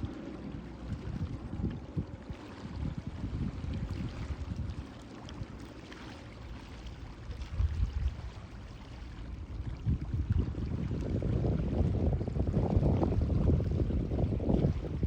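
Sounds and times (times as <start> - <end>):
sea water washing: 0.0 - 15.0
wind rumbling on microphone: 0.0 - 15.0.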